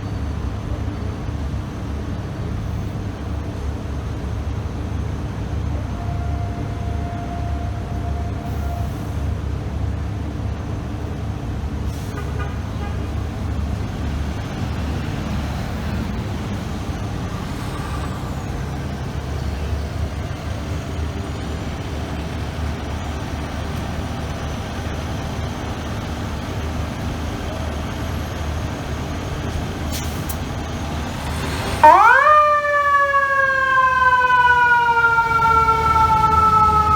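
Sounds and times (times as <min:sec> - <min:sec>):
heavy vehicle engines rumbling: 0:00.0 - 0:36.9.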